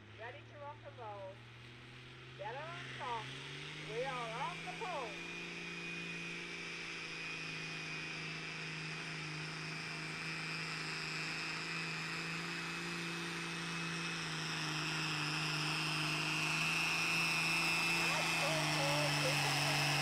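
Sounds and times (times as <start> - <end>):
tractor engine at high revs: 1.4 - 20.0.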